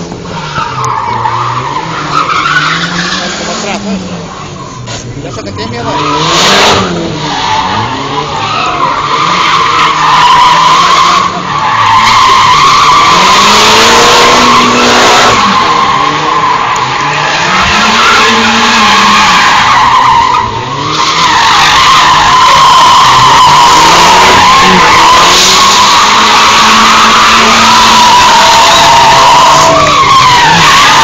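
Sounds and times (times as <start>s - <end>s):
car engine revving: 0.0s - 31.0s
tyres squealing: 0.3s - 31.0s.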